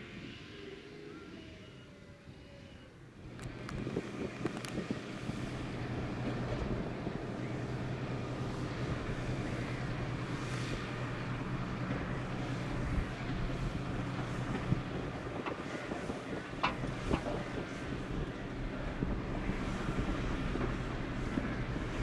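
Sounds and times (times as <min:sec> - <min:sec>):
tractor engine running: 0:03.2 - 0:22.0.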